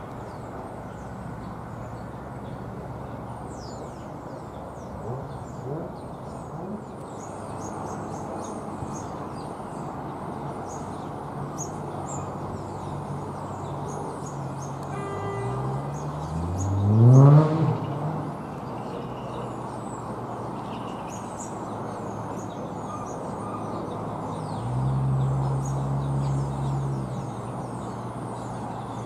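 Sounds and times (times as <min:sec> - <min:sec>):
small birds chirping: 0:00.0 - 0:17.1, 0:17.8 - 0:29.0.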